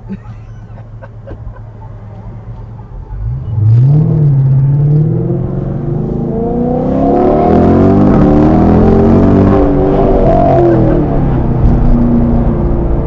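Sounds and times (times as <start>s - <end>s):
car engine revving: 1.6s - 13.0s.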